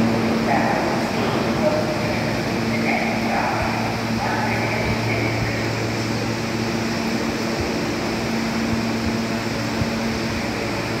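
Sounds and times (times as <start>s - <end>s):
subway car hum and fan noise: 0.0s - 11.0s.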